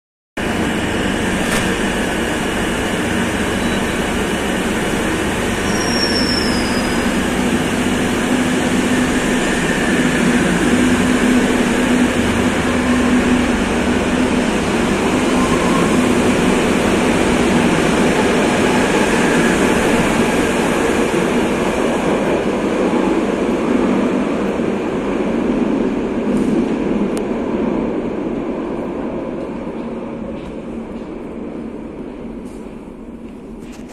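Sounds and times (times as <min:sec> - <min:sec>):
electric train rumbling on rails: 0:00.4 - 0:33.9.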